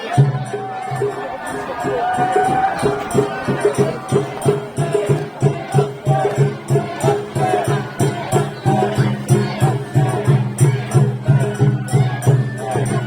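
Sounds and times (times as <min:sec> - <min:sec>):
taiko drums beating: 0:00.2 - 0:13.0.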